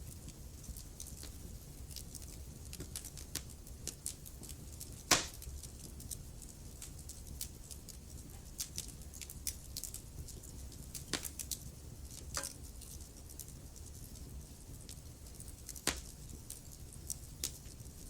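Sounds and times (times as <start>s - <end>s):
low steady rumble: 0.0s - 18.0s
wood fire crackling: 0.0s - 18.0s
sharp pops of fire: 0.2s - 13.9s, 14.7s - 17.8s.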